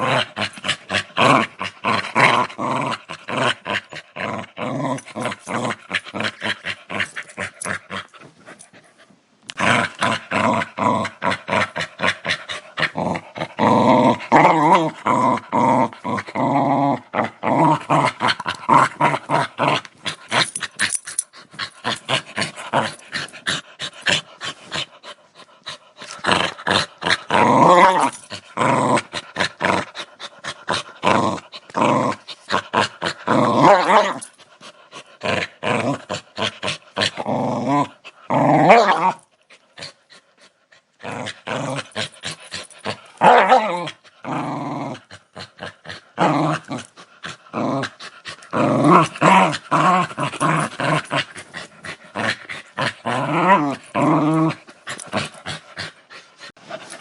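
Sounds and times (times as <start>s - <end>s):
dog growling: 0.0s - 8.6s, 9.5s - 57.0s.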